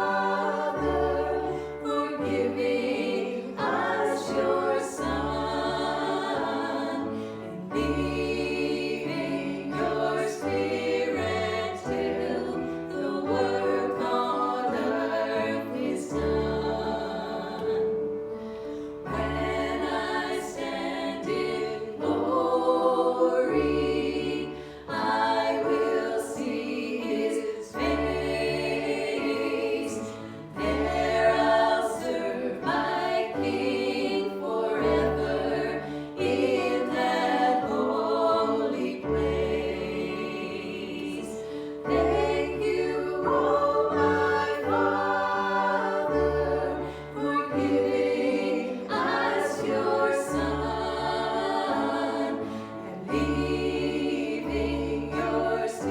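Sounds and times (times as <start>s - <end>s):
group singing worship song: 0.0s - 55.9s.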